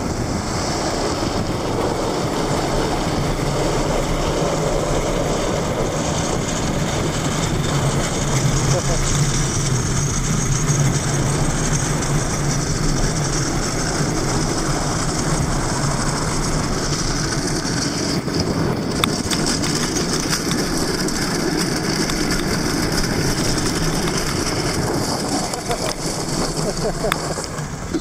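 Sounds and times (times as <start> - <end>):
wheels rumbling on asphalt: 0.0 - 28.0
wind on microphone: 0.0 - 28.0.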